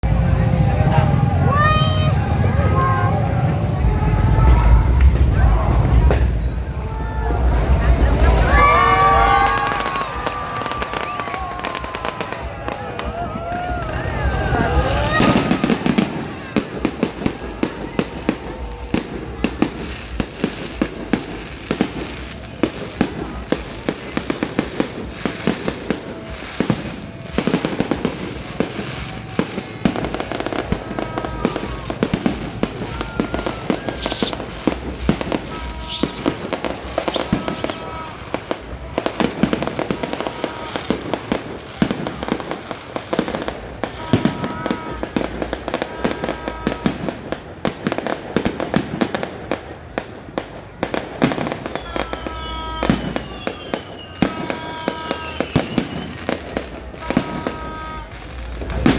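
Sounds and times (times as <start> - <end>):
fireworks bangs and crackling: 0.0 - 58.9.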